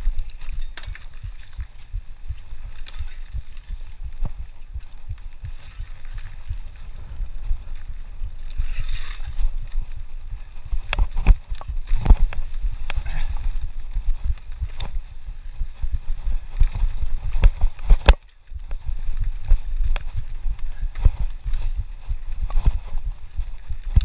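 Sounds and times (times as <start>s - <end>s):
bike rattling over rocks: 0.0s - 24.0s
wind rumble on microphone: 0.0s - 24.0s.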